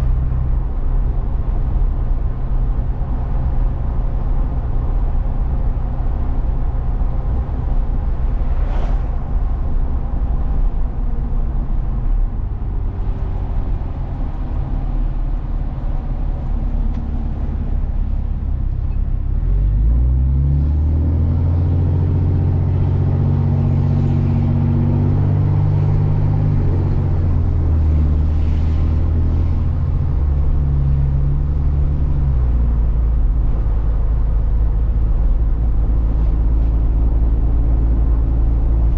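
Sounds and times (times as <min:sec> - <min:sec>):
steady engine drone: 0:00.0 - 0:38.9
truck driving rumble: 0:00.0 - 0:38.9.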